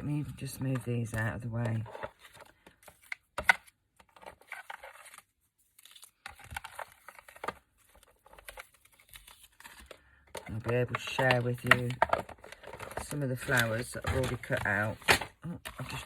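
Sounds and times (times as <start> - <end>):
paper rustling on a desk: 0.5 - 16.0.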